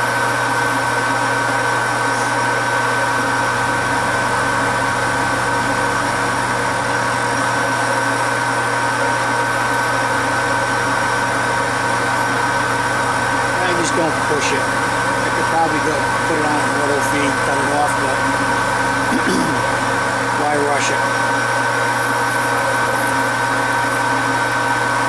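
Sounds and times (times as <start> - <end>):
metal lathe humming and whining: 0.0 - 25.0.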